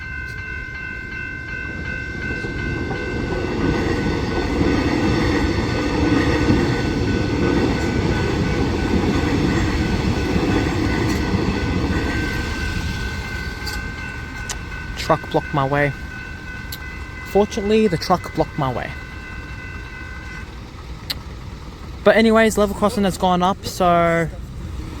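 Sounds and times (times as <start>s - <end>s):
level crossing bells ringing: 0.0s - 24.3s
electric train rumbling past: 0.0s - 25.0s.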